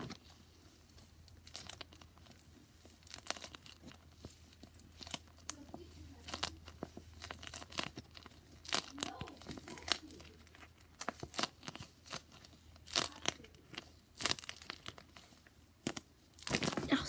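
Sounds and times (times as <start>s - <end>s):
plastic ice pack crinkling: 0.0s - 17.0s.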